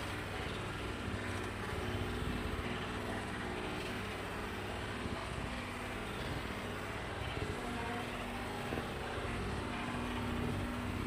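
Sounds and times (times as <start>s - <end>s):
continuous hum: 0.0s - 11.0s
low background rumble: 0.0s - 11.0s.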